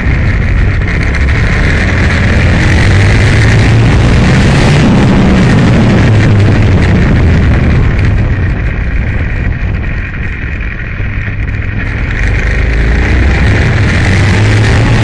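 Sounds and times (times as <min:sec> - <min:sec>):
motorcycle engine running hard: 0:00.0 - 0:15.0
wind rush: 0:00.0 - 0:15.0.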